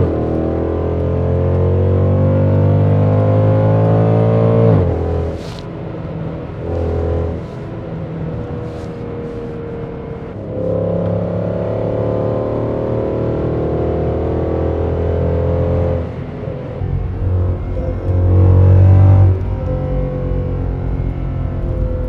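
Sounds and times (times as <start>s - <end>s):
car engine exhaust note: 0.0s - 22.0s.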